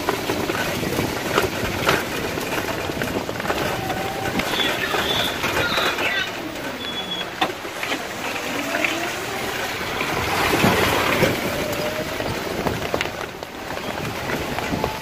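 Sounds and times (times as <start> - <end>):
auto-rickshaw passing: 0.0 - 15.0
rain on a wet road: 0.0 - 15.0.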